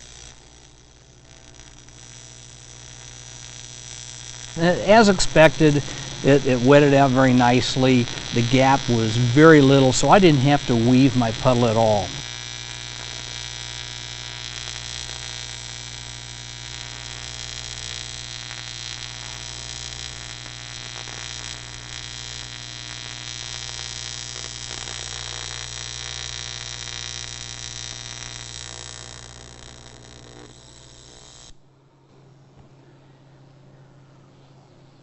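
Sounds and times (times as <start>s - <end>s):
welding arc buzz: 0.0s - 31.7s.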